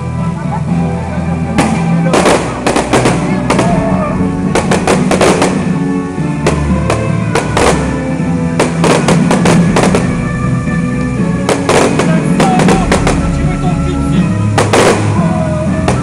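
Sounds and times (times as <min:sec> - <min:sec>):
loud music: 0:00.0 - 0:16.0
fireworks bangs and crackles: 0:00.8 - 0:16.0.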